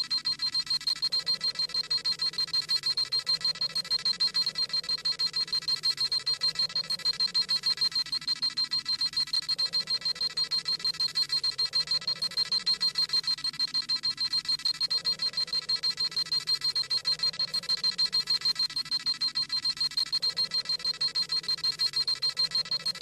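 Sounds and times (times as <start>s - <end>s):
rapid high electronic beeping: 0.0s - 23.0s.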